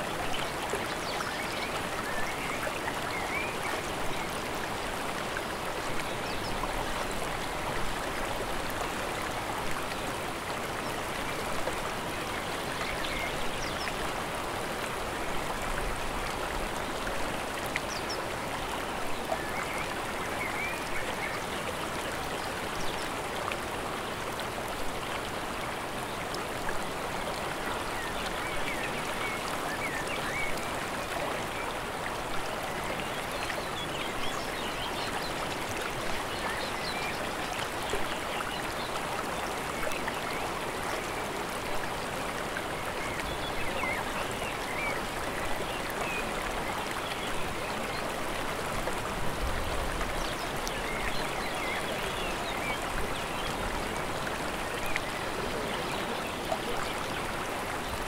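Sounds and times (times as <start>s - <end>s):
fast mountain water rushing: 0.0s - 58.0s.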